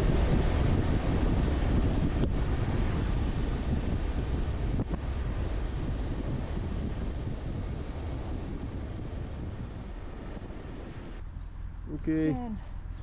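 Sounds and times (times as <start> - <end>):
motorcycle engine rumble: 0.0 - 13.0
road noise: 0.0 - 13.0
wind buffeting microphone: 0.0 - 13.0.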